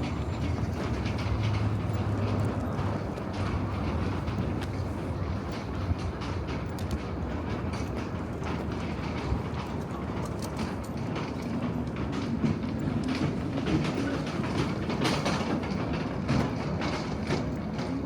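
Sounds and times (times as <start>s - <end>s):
train rumbling: 0.0s - 18.0s
wheels clicking on track: 0.0s - 18.0s.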